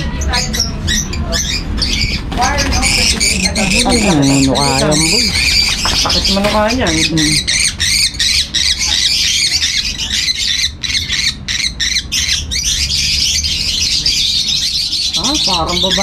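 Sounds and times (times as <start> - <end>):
lovebirds squawking and chattering: 0.0 - 16.0.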